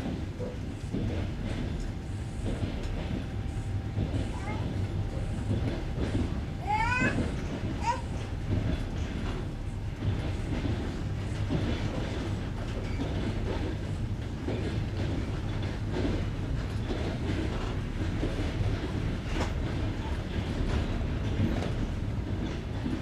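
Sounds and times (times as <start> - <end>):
train rolling rumble: 0.0 - 23.0
train wheels knocking at rail joints: 0.0 - 23.0.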